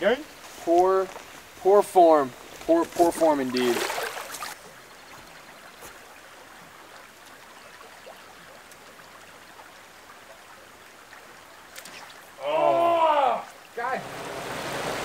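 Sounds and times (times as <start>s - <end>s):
creek flowing: 0.0s - 15.0s.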